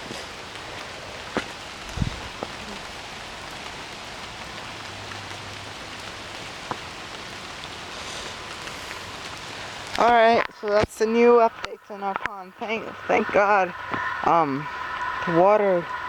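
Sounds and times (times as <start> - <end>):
rain falling on ground and water: 0.0 - 16.0.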